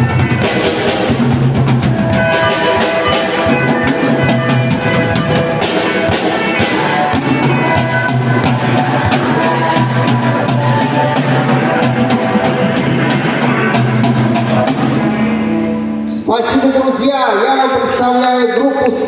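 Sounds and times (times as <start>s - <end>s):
drum hits: 0.0s - 15.3s
live rock band playing: 0.0s - 19.0s.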